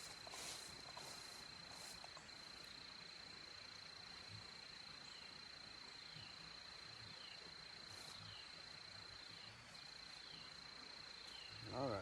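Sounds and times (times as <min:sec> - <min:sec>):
faint insect drone: 0:00.0 - 0:12.0.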